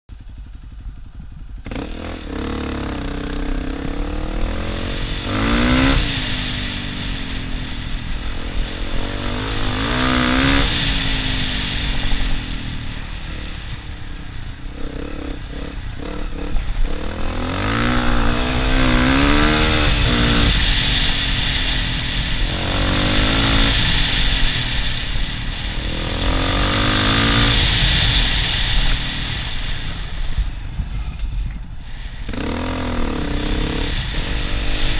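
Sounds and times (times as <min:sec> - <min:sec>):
motorcycle engine revving: 0:00.1 - 0:34.9
wind and tyre noise: 0:00.1 - 0:34.9.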